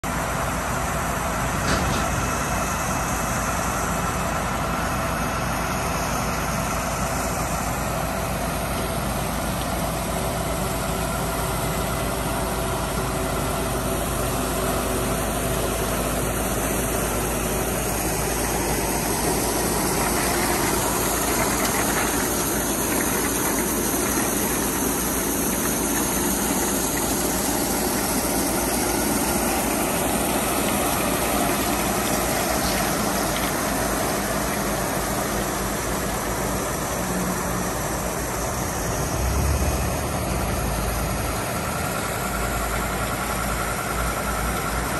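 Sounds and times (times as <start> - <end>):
diesel engine and conveyor drone: 0.0 - 44.9.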